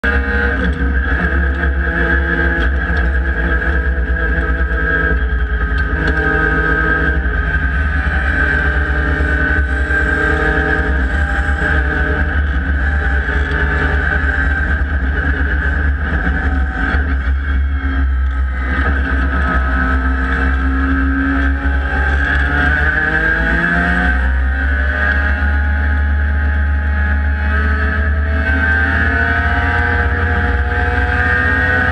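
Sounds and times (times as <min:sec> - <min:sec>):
race car engines running: 0:00.0 - 0:31.9.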